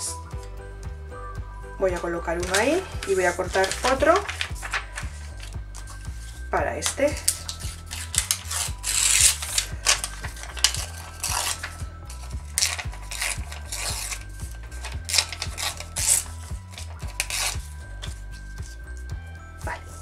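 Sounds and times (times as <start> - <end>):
paper rustling and crinkling: 2.4 - 18.8
paper tearing: 2.4 - 18.8.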